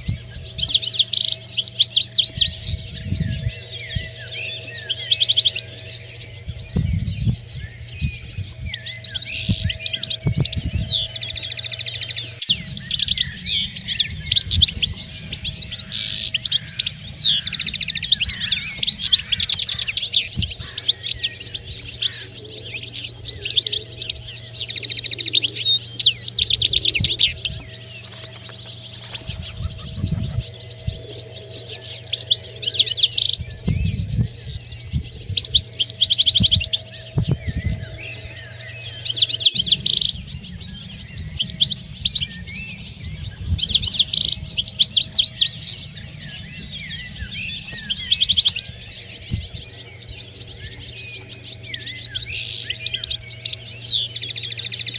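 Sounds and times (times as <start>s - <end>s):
finches twittering and singing: 0.0s - 54.9s
steady low hum: 0.0s - 54.9s.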